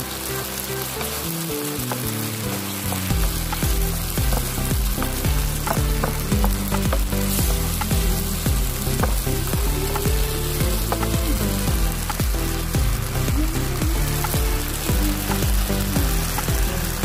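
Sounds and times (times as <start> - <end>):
food sizzling in a frying pan: 0.0 - 17.0
background music with low beat: 1.0 - 17.0.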